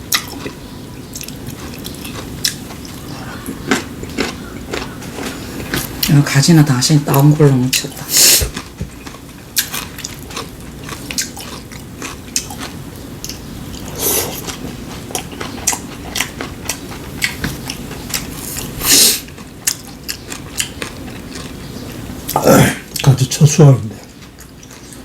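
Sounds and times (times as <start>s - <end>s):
chewing with wet mouth clicks: 0.1s - 6.4s, 7.1s - 22.0s, 24.0s - 25.0s.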